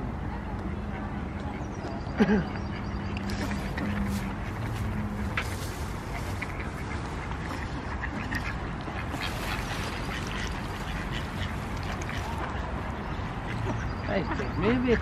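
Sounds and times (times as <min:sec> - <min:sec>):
low background noise: 0:00.0 - 0:15.0
ducks quacking: 0:00.6 - 0:15.0.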